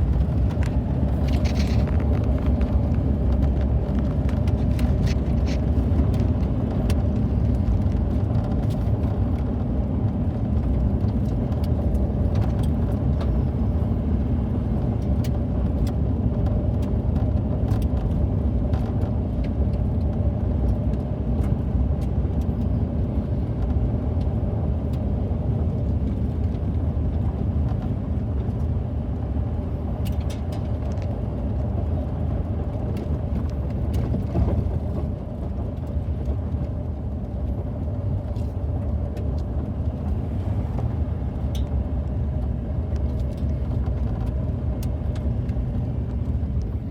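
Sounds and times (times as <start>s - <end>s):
car engine and tyres rumbling: 0.0s - 46.9s.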